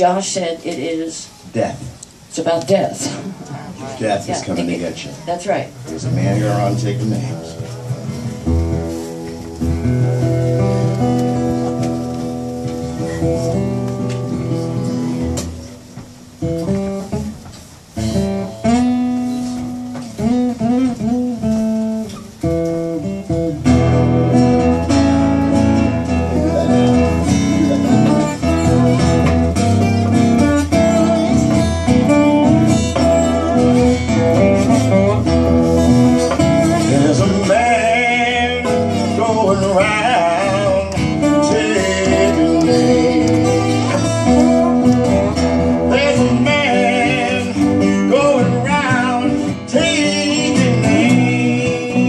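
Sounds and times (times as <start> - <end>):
acoustic guitars playing blues: 0.0 - 52.0.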